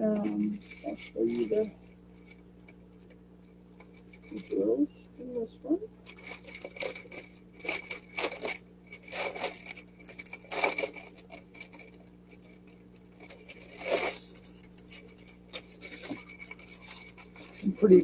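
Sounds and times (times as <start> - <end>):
plastic bags crinkling and rattling: 0.0 - 4.7, 6.0 - 18.0.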